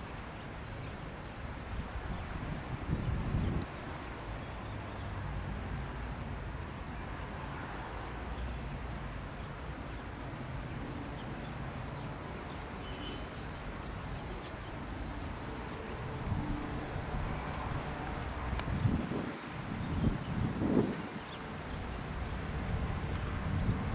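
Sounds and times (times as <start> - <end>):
distant aircraft engines drone: 0.2 - 23.9.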